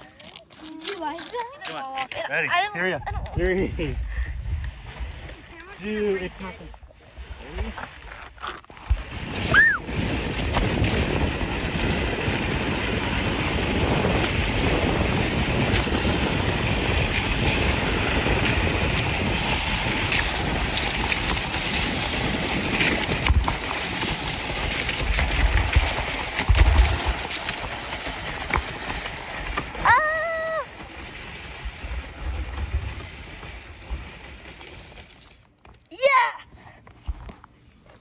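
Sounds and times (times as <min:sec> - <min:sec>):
sled scraping on ice: 0:00.0 - 0:36.4
wind buffeting microphone: 0:01.2 - 0:34.1.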